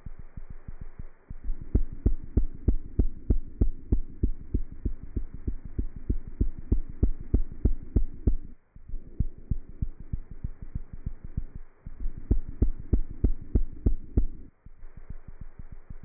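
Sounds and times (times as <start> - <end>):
low steady hum: 0.0 - 16.0
heartbeat thumps: 0.1 - 16.0.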